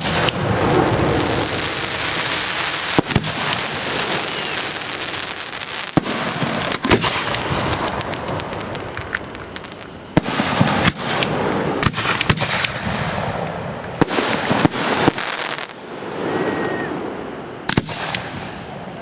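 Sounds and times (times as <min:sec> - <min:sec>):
crackle of falling sparks: 0:00.0 - 0:15.8
fireworks shells bursting: 0:00.0 - 0:15.8.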